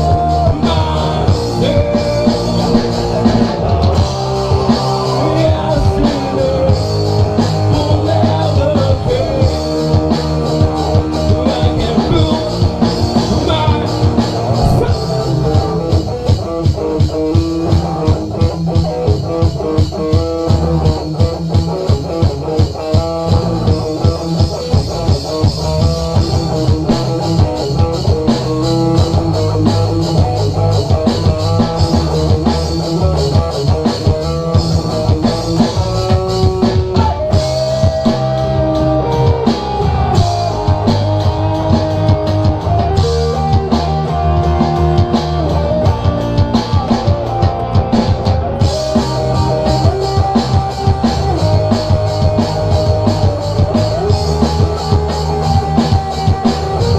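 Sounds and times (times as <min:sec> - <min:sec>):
drum kit beat: 0:00.0 - 0:56.9
electric guitar: 0:00.0 - 0:56.9.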